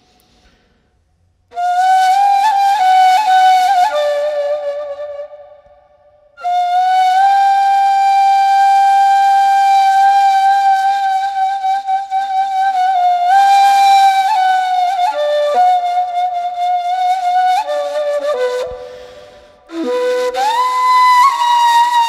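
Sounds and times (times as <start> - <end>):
solo flute: 1.5 - 22.0.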